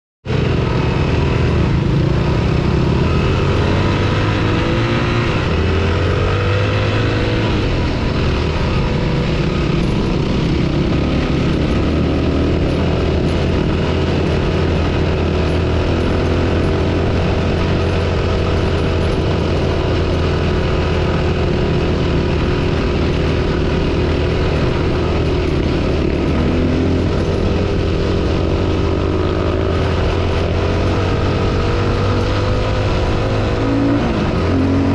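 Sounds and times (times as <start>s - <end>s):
dirt bike engine revving: 1.0s - 34.9s.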